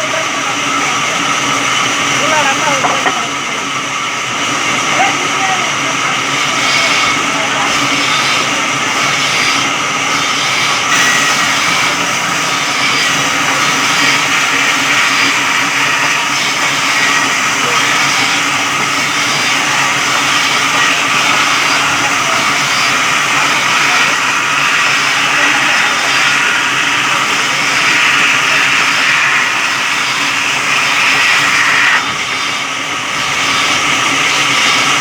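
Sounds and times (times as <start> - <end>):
electric saw cutting log: 0.0 - 35.0.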